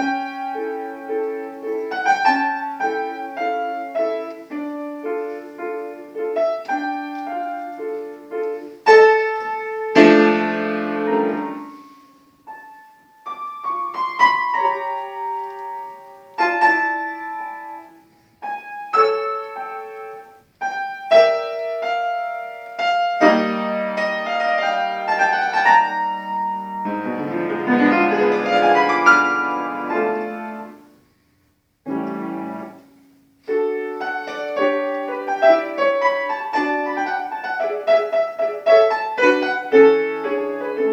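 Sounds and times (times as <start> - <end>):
solo piano classical piece: 0.0 - 40.9.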